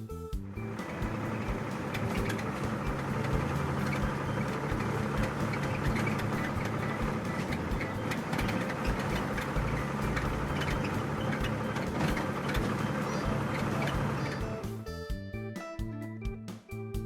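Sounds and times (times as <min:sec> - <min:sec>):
heavy engine droning: 0:00.5 - 0:14.8
clicks and rattles: 0:00.7 - 0:14.7.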